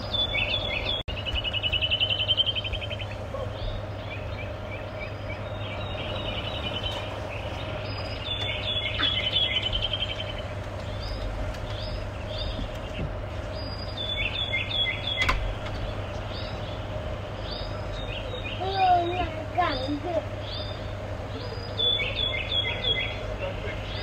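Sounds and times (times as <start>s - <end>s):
small birds trilling: 0.0s - 24.0s
steady low hum: 0.0s - 24.0s.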